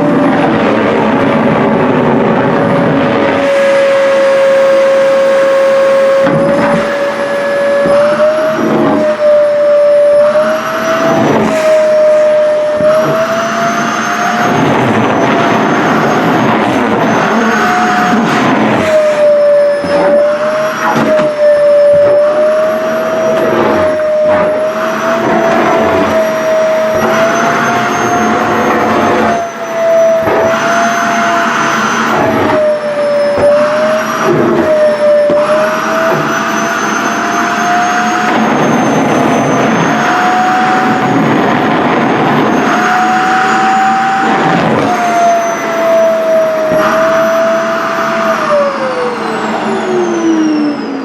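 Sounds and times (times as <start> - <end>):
vacuum cleaner whine: 0.0 - 51.0.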